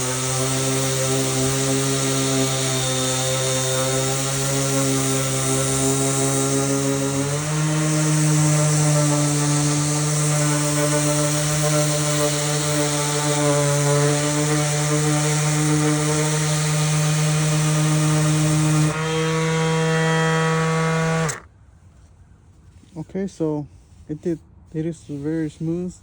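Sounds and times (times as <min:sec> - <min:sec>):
sanding disc hissing on wood: 0:00.0 - 0:21.4, 0:23.8 - 0:26.0
sander motor hum: 0:00.0 - 0:21.5.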